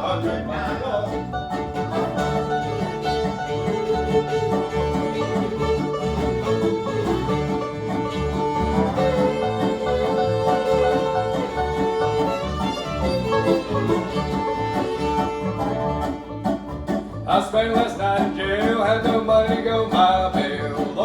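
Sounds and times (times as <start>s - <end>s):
bluegrass band playing: 0.0s - 21.0s
fiddle long notes: 0.0s - 21.0s.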